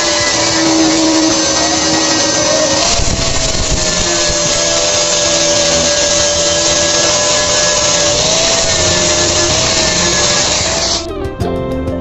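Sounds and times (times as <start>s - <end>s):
angle grinder motor whine: 0.0s - 11.1s
disc grinding on metal: 0.0s - 11.1s.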